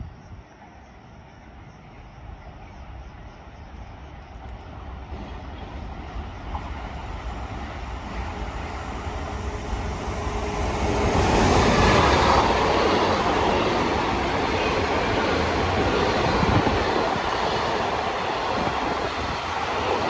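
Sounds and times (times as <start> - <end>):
train passing: 1.5 - 20.0.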